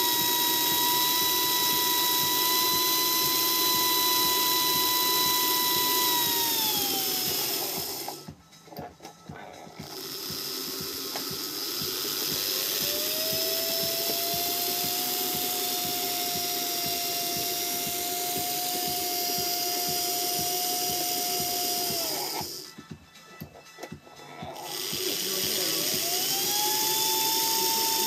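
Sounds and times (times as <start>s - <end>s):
electric motor whine: 0.0s - 8.8s, 9.5s - 23.3s, 24.2s - 28.0s.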